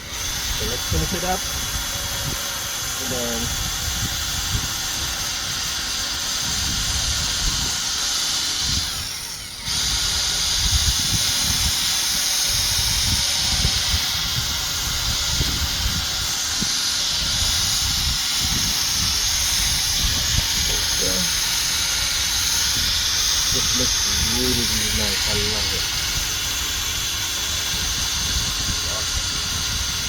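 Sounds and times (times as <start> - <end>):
buffing pad whirring: 0.0 - 30.0.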